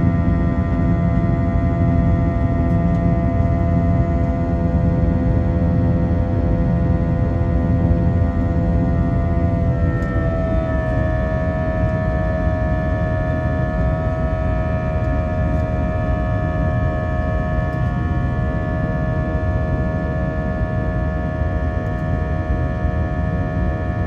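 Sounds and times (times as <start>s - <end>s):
jet engines rumbling in cabin: 0.0s - 24.0s.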